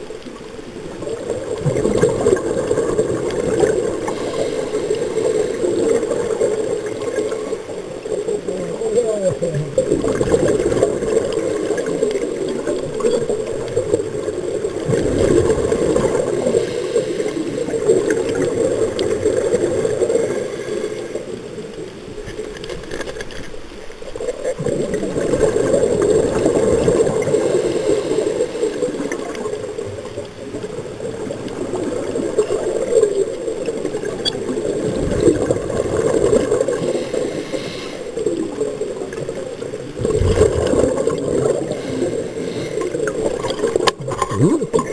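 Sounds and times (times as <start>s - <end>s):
regulator bubbles gurgling: 0.0s - 22.7s, 23.8s - 44.9s.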